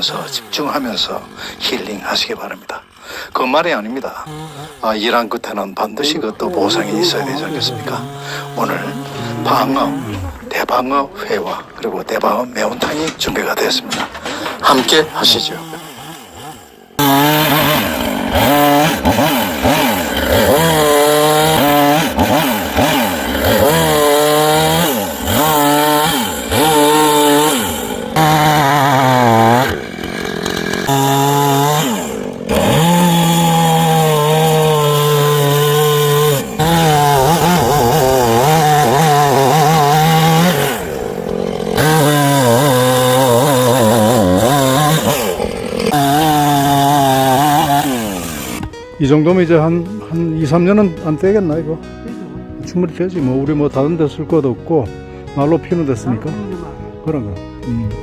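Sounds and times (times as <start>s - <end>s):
chainsaw engine revving: 0.0s - 48.8s.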